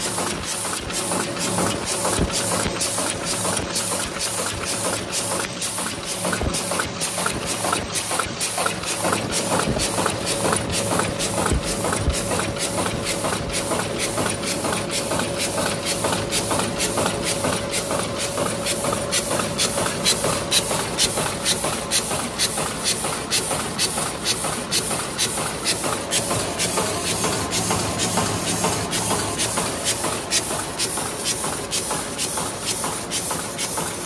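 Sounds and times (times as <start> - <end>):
machine clacking rhythmically: 0.0 - 34.0
steady machine hum and hiss: 0.0 - 34.0.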